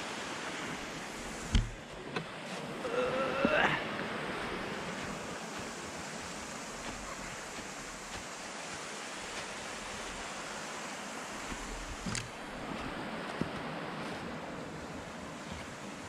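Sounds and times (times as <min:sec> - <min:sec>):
water flowing: 0:00.0 - 0:16.0.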